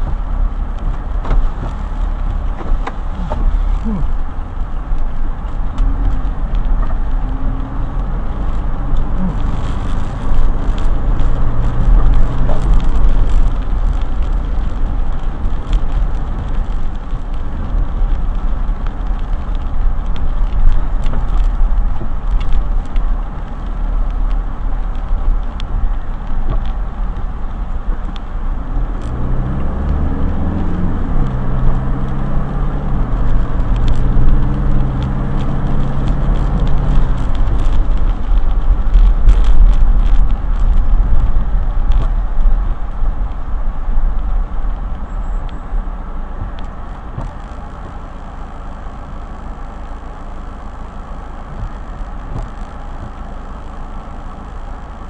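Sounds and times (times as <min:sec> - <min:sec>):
car road noise on wet road: 0:00.0 - 0:55.0
deep engine drone: 0:00.0 - 0:55.0.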